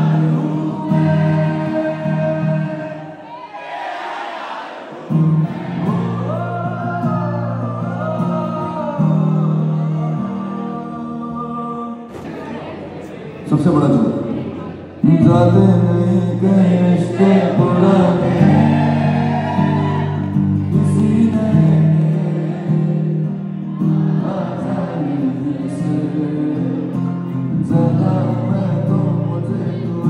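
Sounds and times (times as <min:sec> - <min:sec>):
guitar accompaniment: 0:00.0 - 0:03.3, 0:04.9 - 0:30.0
man singing into microphone: 0:00.0 - 0:03.3, 0:05.9 - 0:12.1, 0:15.0 - 0:30.0.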